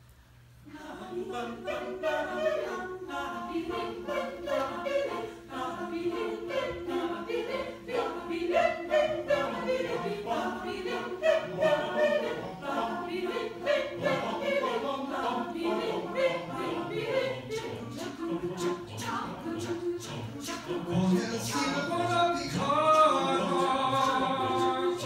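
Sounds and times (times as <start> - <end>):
choir singing a cappella: 0.6 - 25.0.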